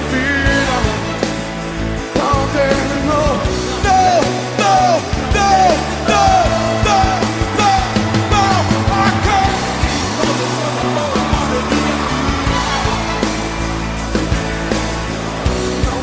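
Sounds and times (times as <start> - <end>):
gospel band playing: 0.0 - 16.0.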